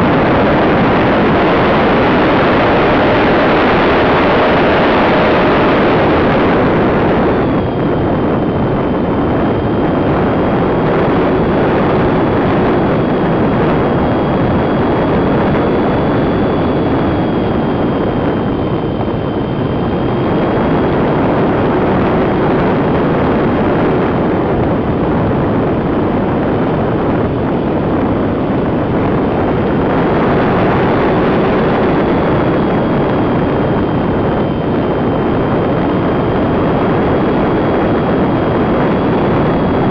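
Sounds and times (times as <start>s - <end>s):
high electric motor whine: 0.0s - 39.9s
wind rushing over camera: 0.0s - 39.9s.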